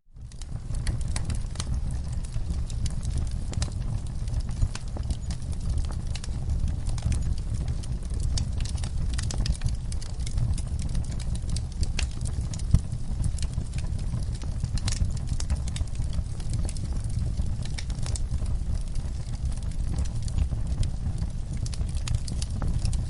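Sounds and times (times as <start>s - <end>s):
low fire rumble: 0.0s - 23.0s
wood fire crackling and popping: 0.1s - 23.0s.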